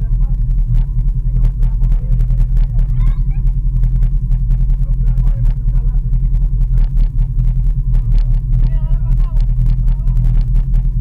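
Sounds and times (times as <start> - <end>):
engine idling with low drone: 0.0 - 11.0.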